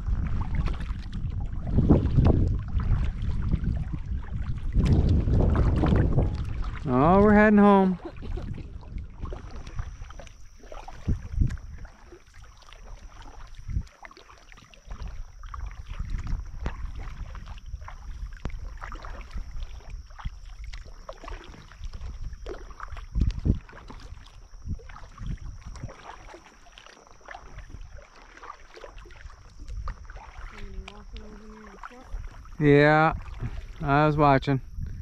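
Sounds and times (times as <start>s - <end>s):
kayak paddle swishing through water: 0.0s - 34.0s
thin steady high tone: 6.9s - 35.0s.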